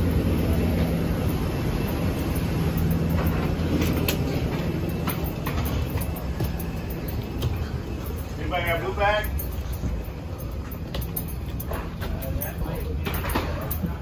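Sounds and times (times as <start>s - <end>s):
low machinery hum: 0.0s - 14.0s
rolling suitcases: 0.0s - 14.0s
footsteps on metal floor: 0.8s - 14.0s.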